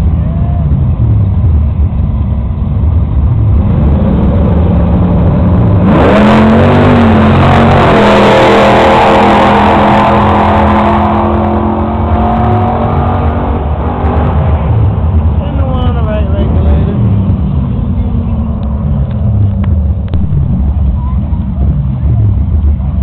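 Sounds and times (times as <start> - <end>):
drag racing car engine: 0.0 - 23.0.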